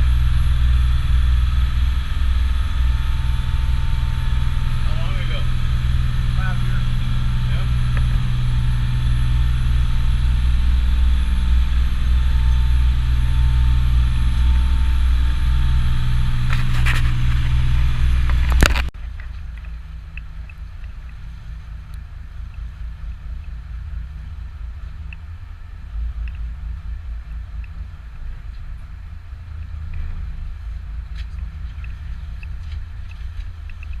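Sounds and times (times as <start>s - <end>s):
boat engine drone: 0.0s - 34.0s
low rumble: 0.0s - 34.0s.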